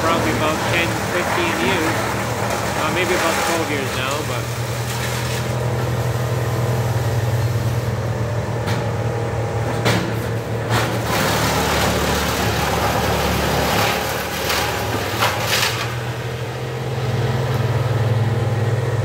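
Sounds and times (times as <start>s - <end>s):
engines idling: 0.0s - 19.0s.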